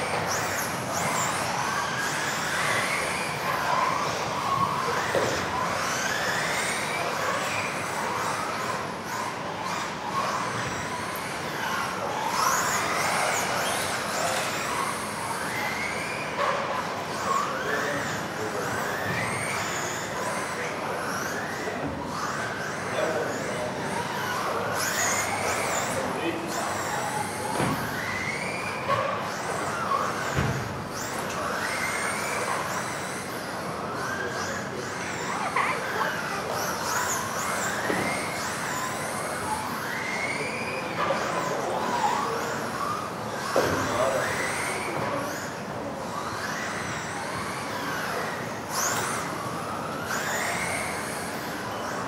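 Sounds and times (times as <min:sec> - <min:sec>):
electric toy car motors whining: 0:00.0 - 0:52.0.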